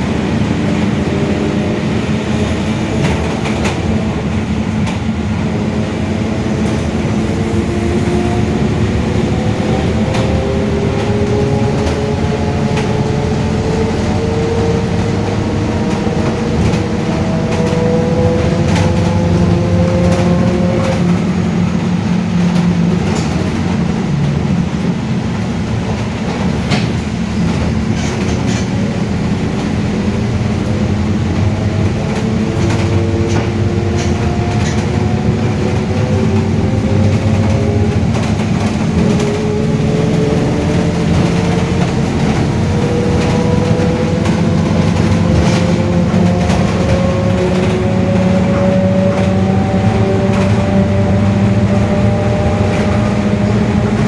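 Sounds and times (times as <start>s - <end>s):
bus body rattles: 0.0s - 54.0s
bus differential whine: 0.0s - 54.0s
diesel engine running: 0.0s - 54.0s.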